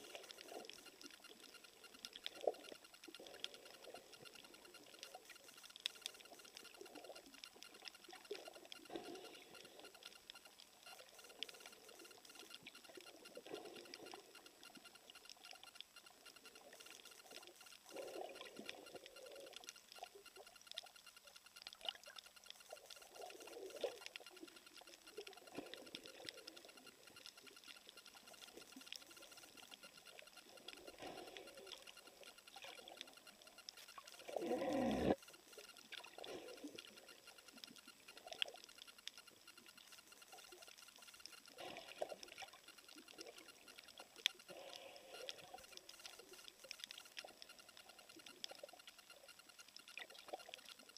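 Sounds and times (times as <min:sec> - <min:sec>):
soft underwater swishing: 0:00.0 - 0:50.9
underwater crackle of clicks: 0:00.0 - 0:50.9.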